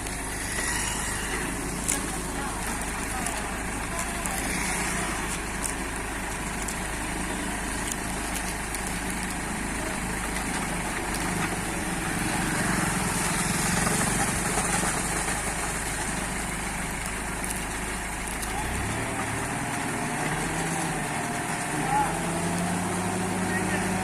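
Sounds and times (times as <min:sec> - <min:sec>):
concrete mixer engine running: 0:00.0 - 0:24.0.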